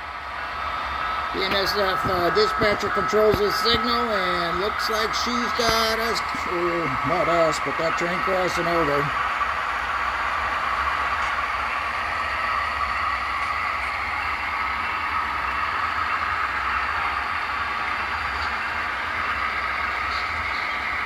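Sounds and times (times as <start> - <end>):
model trains running: 0.0 - 21.0.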